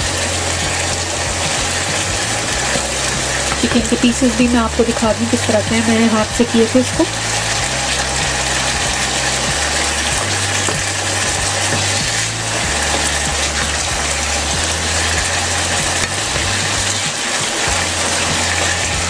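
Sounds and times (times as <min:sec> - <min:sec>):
background music with bass line: 0:00.0 - 0:19.0
stir-fry sizzling in a wok: 0:00.0 - 0:19.0
wooden spatula stirring: 0:00.6 - 0:19.0.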